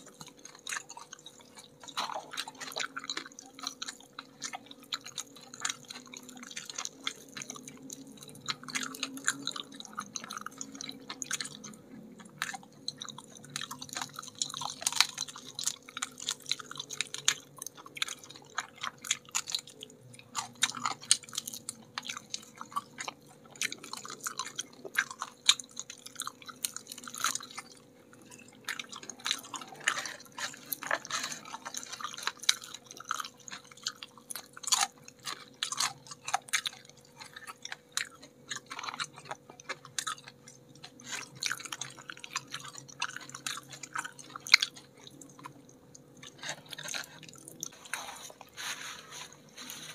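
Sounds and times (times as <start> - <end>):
crunching fried chicken: 0.0 - 49.9
faint steady hum: 0.0 - 49.9
wet mouth clicks: 0.2 - 48.6.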